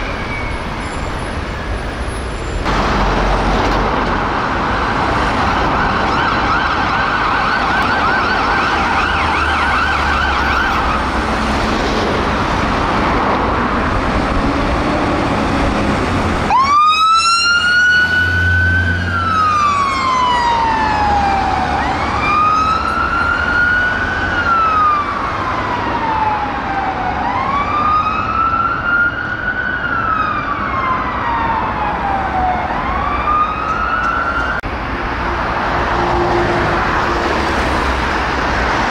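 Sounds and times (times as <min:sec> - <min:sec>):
road traffic noise: 0:00.0 - 0:38.9
fire engine siren: 0:02.6 - 0:38.9.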